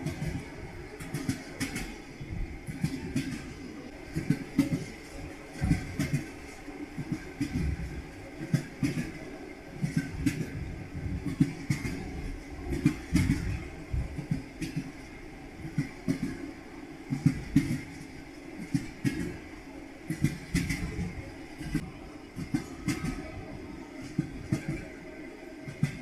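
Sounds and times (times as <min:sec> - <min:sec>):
train wheels clattering: 0:00.0 - 0:26.0.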